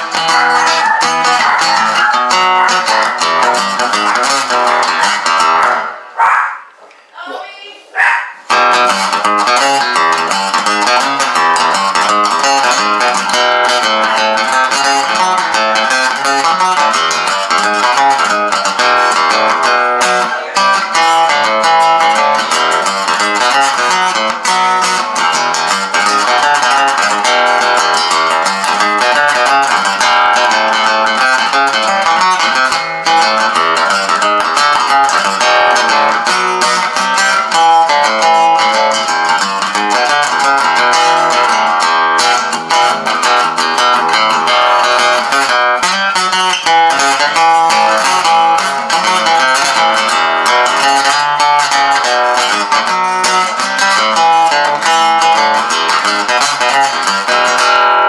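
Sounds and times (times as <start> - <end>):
amplified acoustic guitar playing: 0.0 - 58.0.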